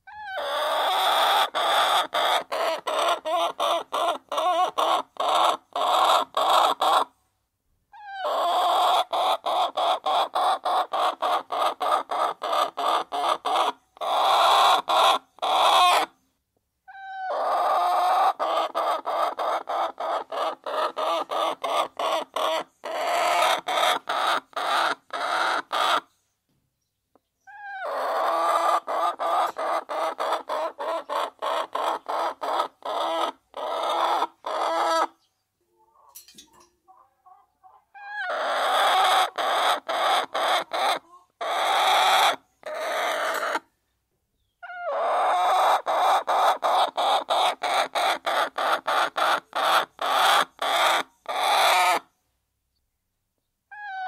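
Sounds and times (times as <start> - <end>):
hens clucking: 0.1 - 7.1, 8.0 - 16.1, 16.9 - 26.1, 27.2 - 43.7, 44.6 - 52.1.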